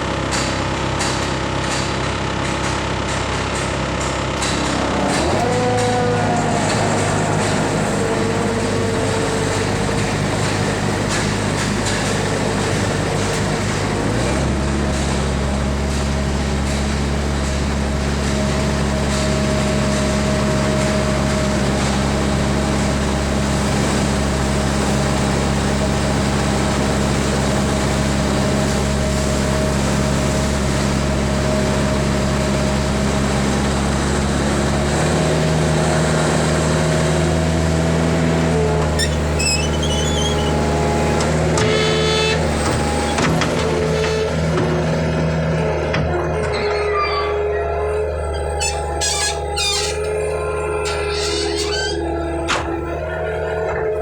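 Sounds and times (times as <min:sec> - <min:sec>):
skid steer loader engine running: 0:00.0 - 0:54.0.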